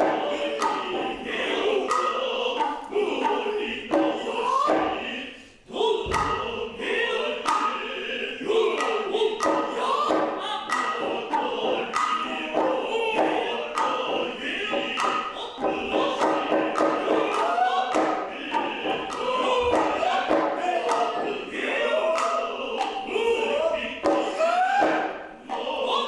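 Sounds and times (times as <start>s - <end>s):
chorus chanting in unison: 0.0s - 26.0s
sharp hand-drum strokes: 0.0s - 26.0s.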